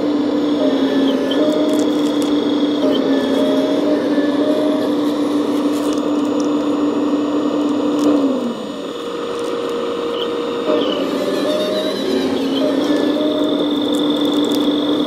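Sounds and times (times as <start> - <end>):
model excavator mechanical whine: 0.0 - 15.0.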